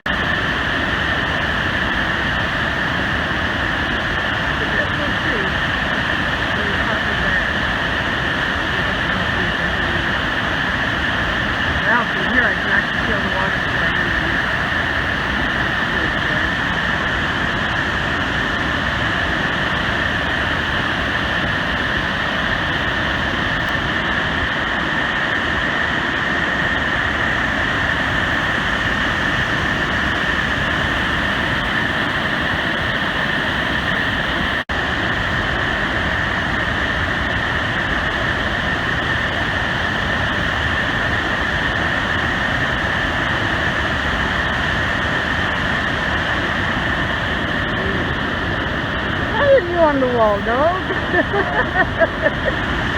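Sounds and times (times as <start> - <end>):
waterfall roaring: 0.1 - 33.5, 42.7 - 52.9.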